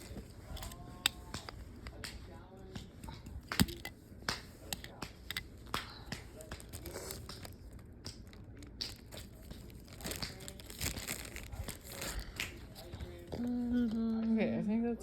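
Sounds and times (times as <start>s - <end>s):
faint voices: 0.0s - 15.0s.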